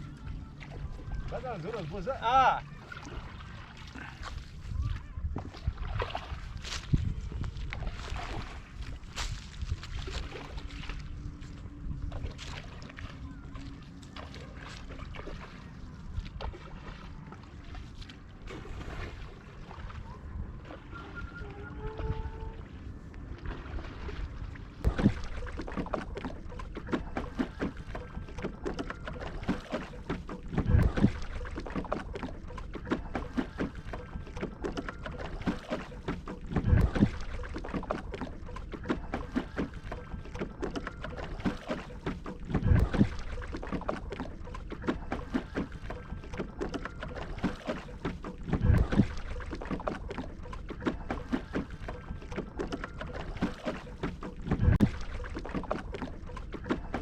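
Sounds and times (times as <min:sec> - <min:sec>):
paddle stroke through water: 0:00.0 - 0:57.0
water lapping and dripping: 0:00.0 - 0:57.0.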